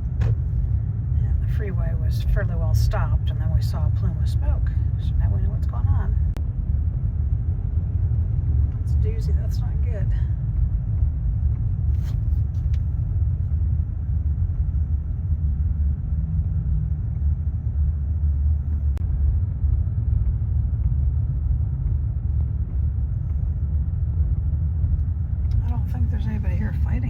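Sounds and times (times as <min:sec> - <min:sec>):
road and engine rumble in car: 0:00.0 - 0:27.0.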